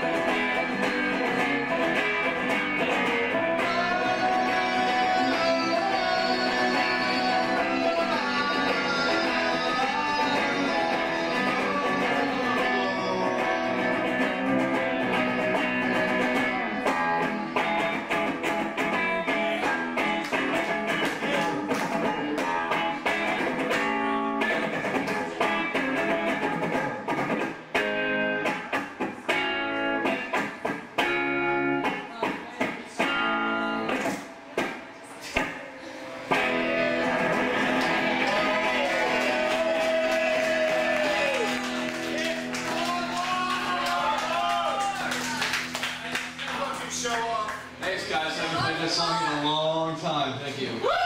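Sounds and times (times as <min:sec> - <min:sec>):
loud electric guitar: 0:00.0 - 0:49.4.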